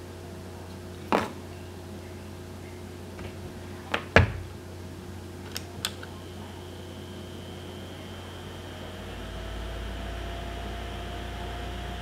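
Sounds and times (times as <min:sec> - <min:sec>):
heater whine and fan hiss: 0:00.0 - 0:12.0.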